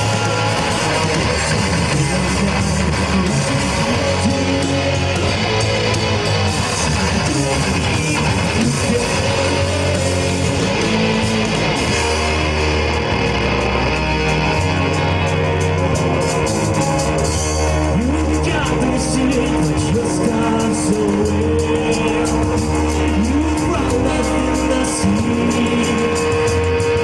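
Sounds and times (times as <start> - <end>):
bass guitar: 0.0 - 27.0
electric guitars strumming: 0.0 - 27.0.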